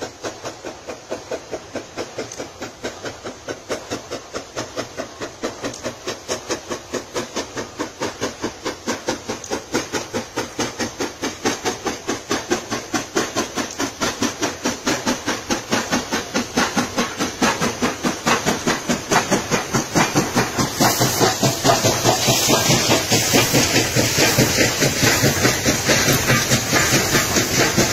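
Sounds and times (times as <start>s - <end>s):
loud steam hiss: 0.0s - 27.9s
steam locomotive chuffing: 0.0s - 27.9s.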